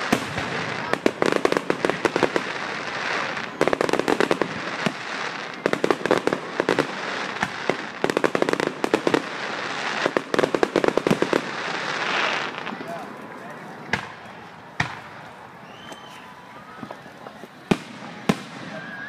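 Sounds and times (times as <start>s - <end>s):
fireworks crackling pops: 0.0s - 19.0s
steady background noise: 0.0s - 19.0s.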